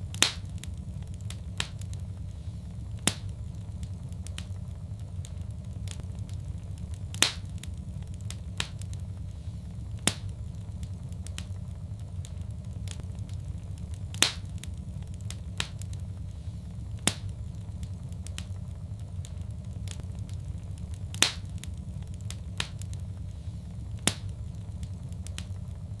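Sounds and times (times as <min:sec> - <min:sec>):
sharp pops of fire: 0:00.0 - 0:26.0
wood fire crackling: 0:00.0 - 0:26.0.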